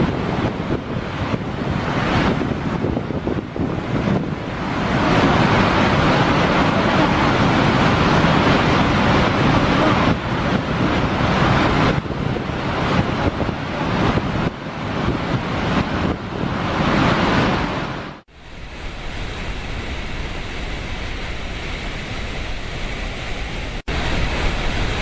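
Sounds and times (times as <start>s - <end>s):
water torrent rushing: 0.0s - 25.0s
wind buffeting microphone: 0.0s - 25.0s.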